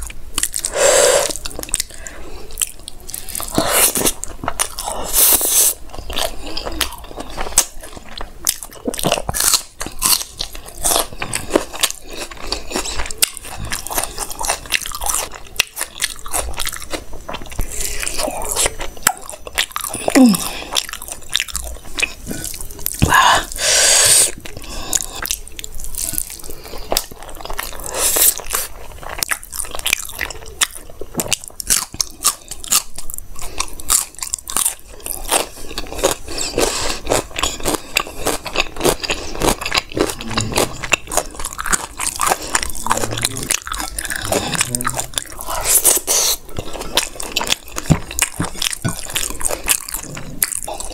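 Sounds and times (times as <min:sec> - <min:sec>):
chewing food: 0:00.0 - 0:50.9.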